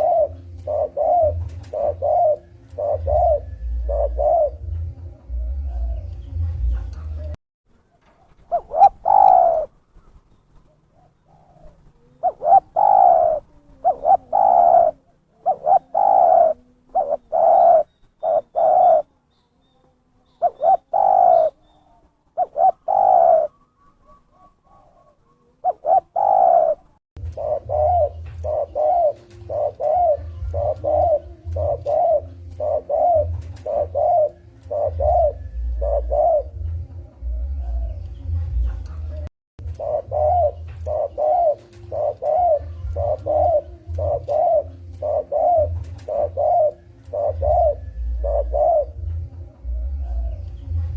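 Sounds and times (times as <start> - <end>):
dove cooing: 0.0 - 7.4, 8.2 - 50.9.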